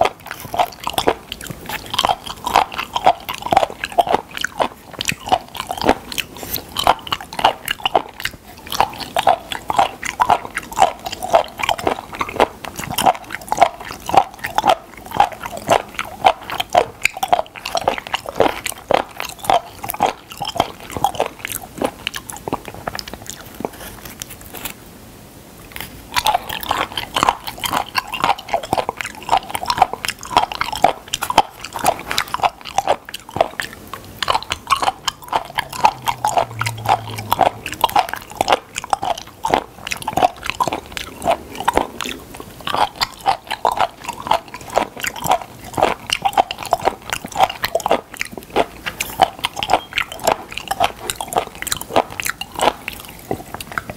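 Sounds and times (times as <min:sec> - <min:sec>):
wet crunchy chewing: 0:00.0 - 0:24.8, 0:25.6 - 0:53.9.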